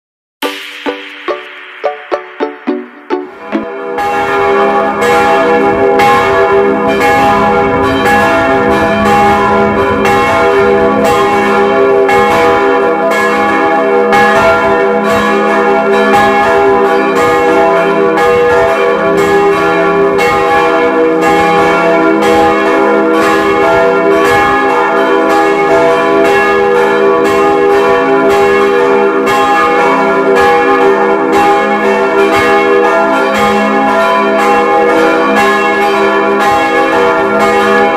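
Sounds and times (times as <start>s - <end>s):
church bells ringing: 0.4s - 37.9s.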